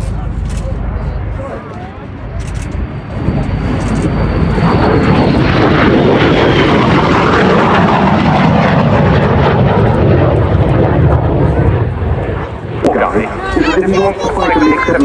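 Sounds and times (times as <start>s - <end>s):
jet fighter engine roar: 0.0s - 15.0s.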